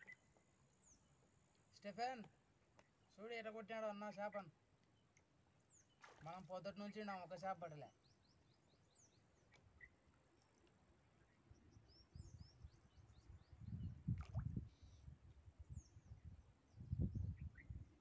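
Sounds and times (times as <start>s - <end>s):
small birds chirping: 0.0s - 3.2s, 4.1s - 18.0s.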